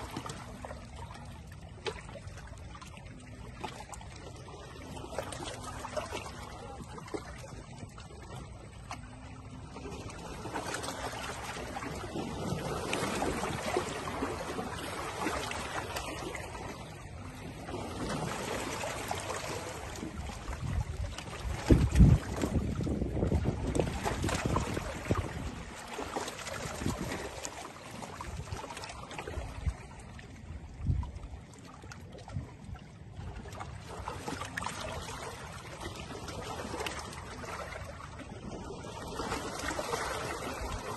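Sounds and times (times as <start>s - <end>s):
small waves lapping: 0.0s - 40.9s.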